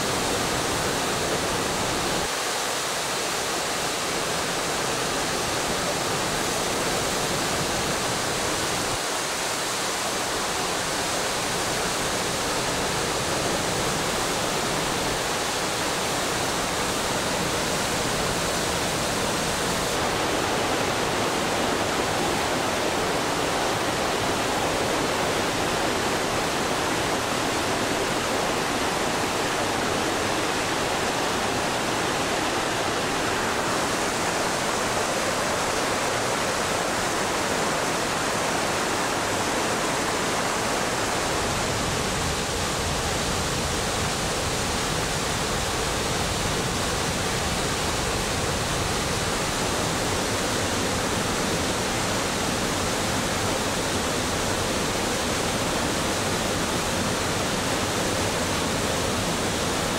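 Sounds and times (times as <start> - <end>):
waterfall roaring into a pool: 0.0 - 59.9.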